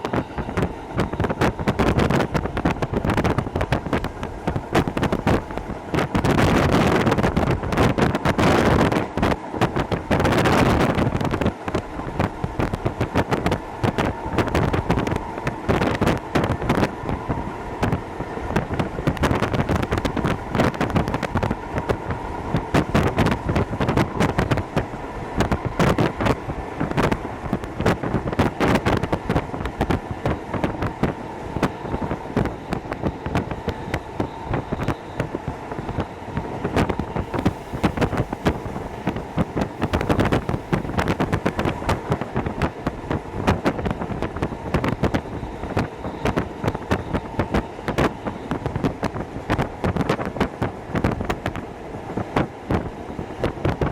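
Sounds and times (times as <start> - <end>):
electric train running: 0.0 - 53.7
wind buffeting microphone: 0.0 - 53.9.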